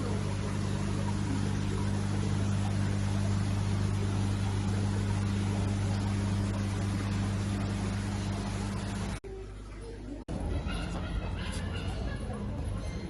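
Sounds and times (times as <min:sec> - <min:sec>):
constant background noise: 0:00.0 - 0:13.0
low mechanical hum: 0:00.0 - 0:13.0.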